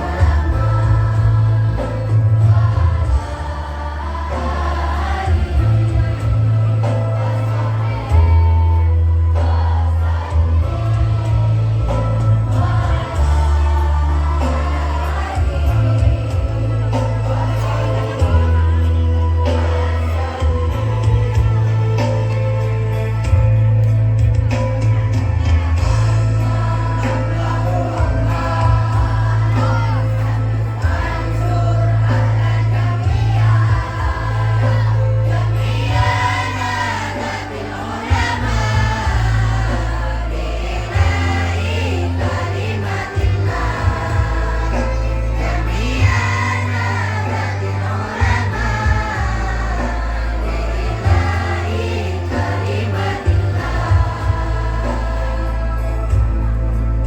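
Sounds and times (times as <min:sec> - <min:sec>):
choir singing devotional song: 0:00.0 - 0:57.0
heavy bass accompaniment: 0:00.0 - 0:57.0.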